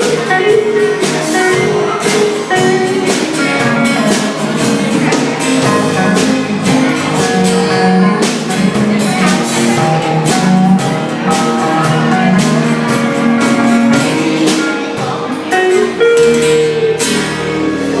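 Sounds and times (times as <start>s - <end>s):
drum and cymbal hits: 0.0s - 18.0s
live band playing: 0.0s - 18.0s.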